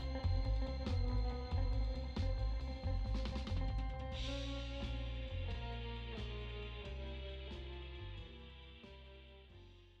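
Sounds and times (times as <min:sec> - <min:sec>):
plucked background music: 0:00.0 - 0:09.4.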